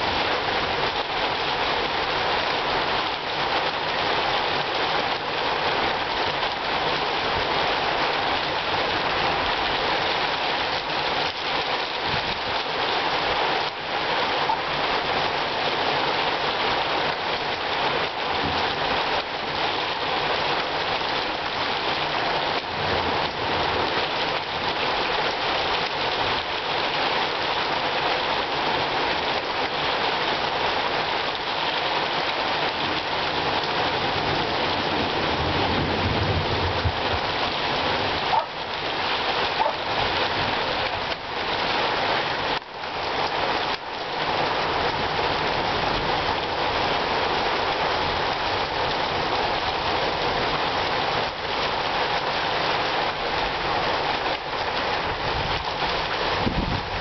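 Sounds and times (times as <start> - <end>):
rain pouring: 0.0 - 57.0.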